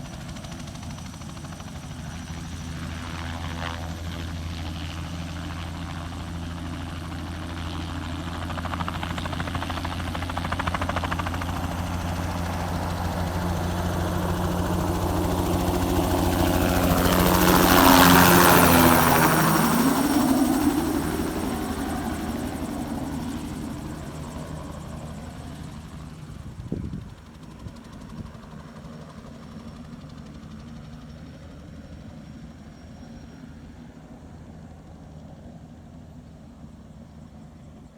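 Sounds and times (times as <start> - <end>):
helicopter flying past: 0.0 - 37.9.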